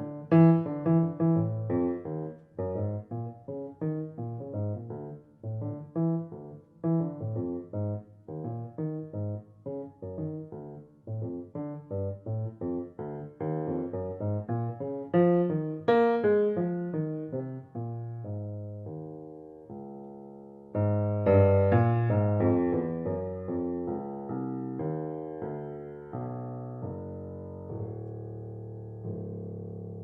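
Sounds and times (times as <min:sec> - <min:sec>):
grand piano playing: 0:00.0 - 0:30.0.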